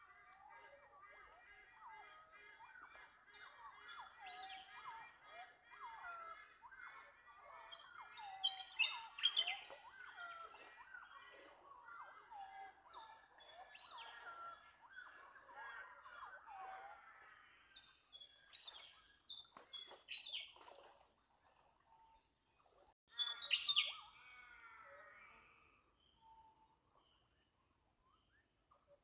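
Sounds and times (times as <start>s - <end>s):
small birds singing: 0.0s - 29.0s.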